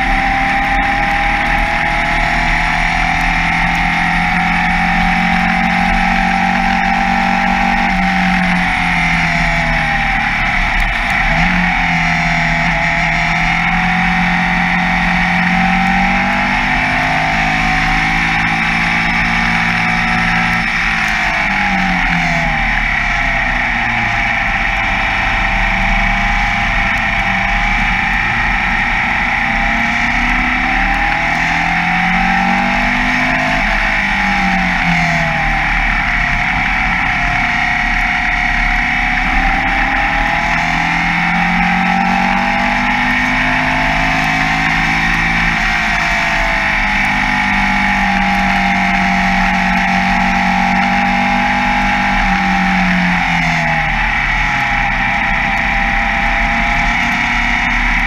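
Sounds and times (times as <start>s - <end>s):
racing car engine revving: 0.0s - 58.0s
rushing wind noise: 0.0s - 58.0s.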